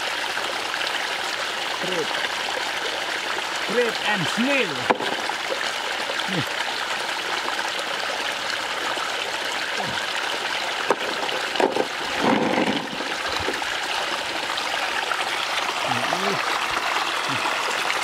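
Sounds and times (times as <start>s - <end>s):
shallow water trickling: 0.0s - 18.0s.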